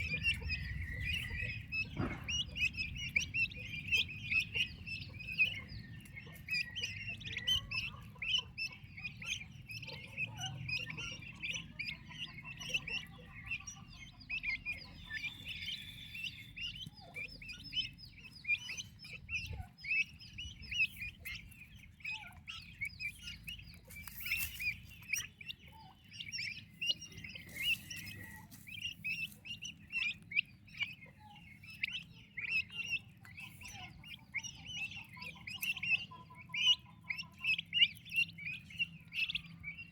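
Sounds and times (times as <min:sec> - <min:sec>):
turkey chicks peeping: 0:00.0 - 0:39.9.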